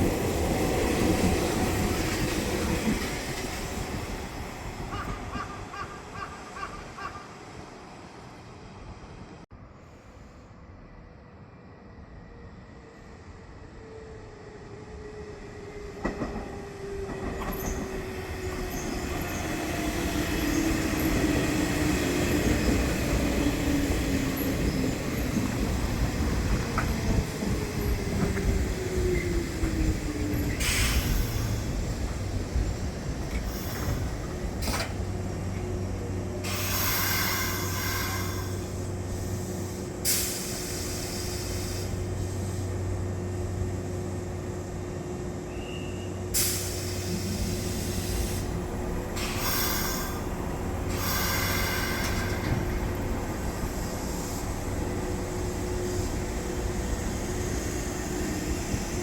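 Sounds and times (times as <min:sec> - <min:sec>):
standing train hum: 0:00.0 - 0:59.0.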